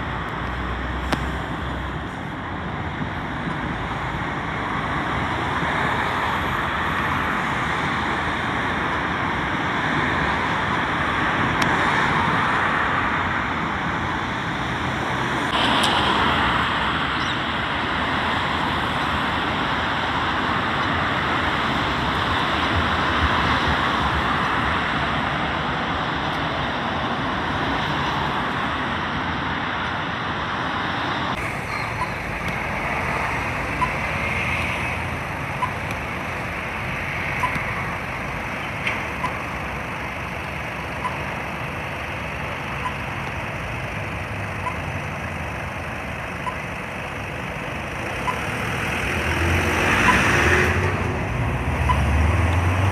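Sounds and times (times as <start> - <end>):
cars driving past: 0.0 - 52.9.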